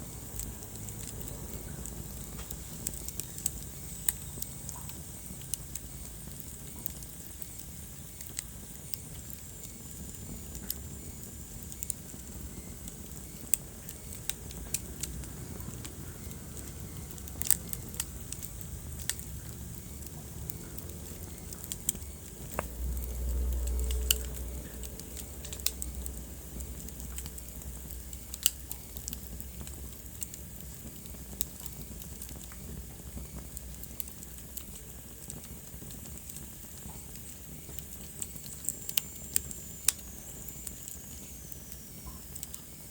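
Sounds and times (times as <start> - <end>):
fire popping: 0.0 - 42.9
fireplace fire crackling: 0.0 - 42.9
low rumble of flame: 0.0 - 42.9.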